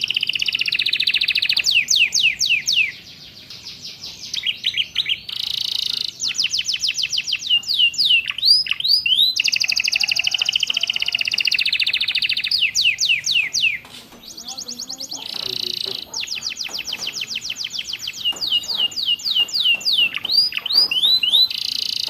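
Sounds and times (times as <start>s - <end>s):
canary singing: 0.0s - 22.0s.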